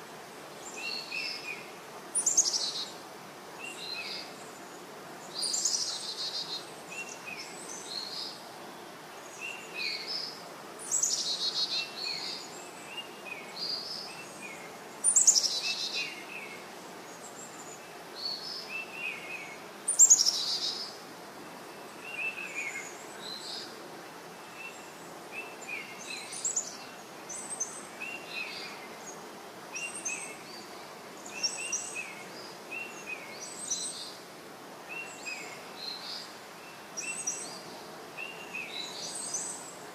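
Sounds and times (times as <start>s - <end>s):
small birds chirping: 0.6s - 39.9s.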